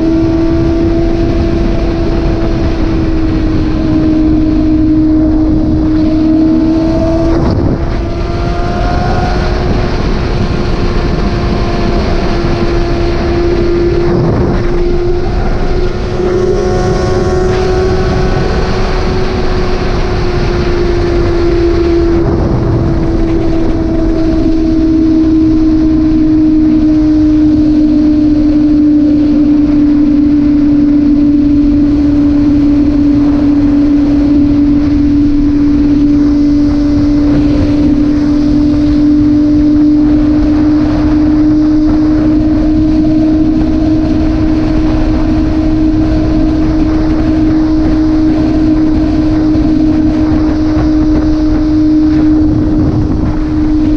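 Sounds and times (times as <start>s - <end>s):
motorcycle engine cruising: 0.0s - 53.9s
wind noise on microphone: 0.0s - 53.9s.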